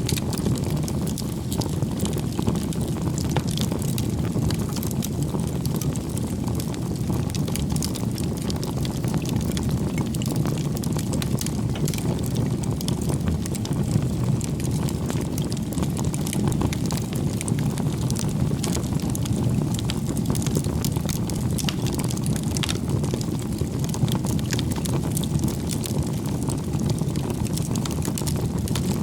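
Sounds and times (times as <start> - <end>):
low rush of flame: 0.0 - 29.0
wood crackling and popping: 0.0 - 29.0.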